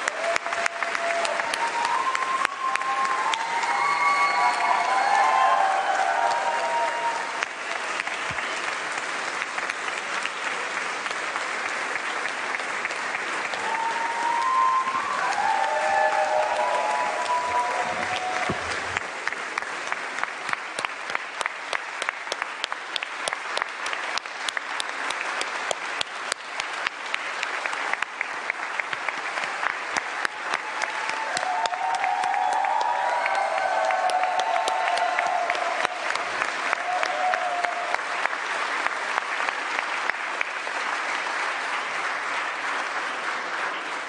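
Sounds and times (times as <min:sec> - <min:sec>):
crowd applauding: 0:00.0 - 0:44.0
rhythmic clapping in unison: 0:00.0 - 0:44.0.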